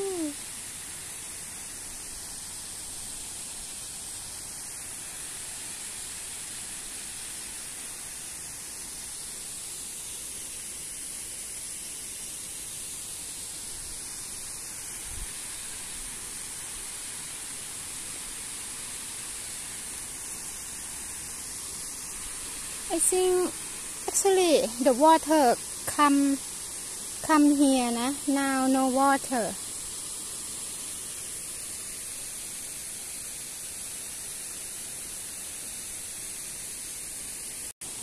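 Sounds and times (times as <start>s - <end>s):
thin high hiss: 0.0s - 38.0s.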